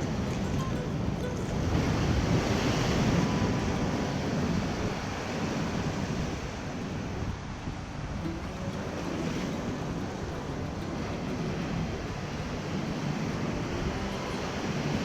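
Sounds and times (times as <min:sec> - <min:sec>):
surf washing against rocks: 0:00.0 - 0:15.0
wind buffeting microphone: 0:00.0 - 0:15.0.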